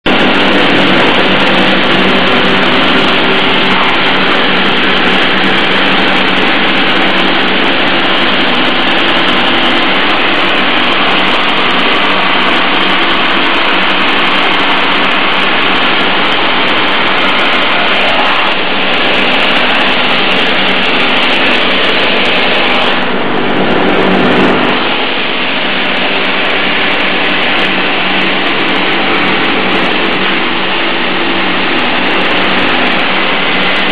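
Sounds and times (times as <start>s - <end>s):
sanding machine running: 0.0s - 33.9s.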